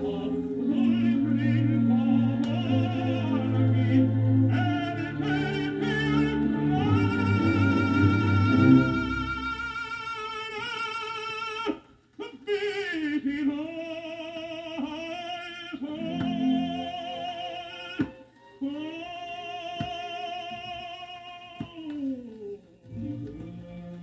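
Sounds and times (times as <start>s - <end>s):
tenor singing with orchestra: 0.0s - 22.0s, 22.8s - 24.0s.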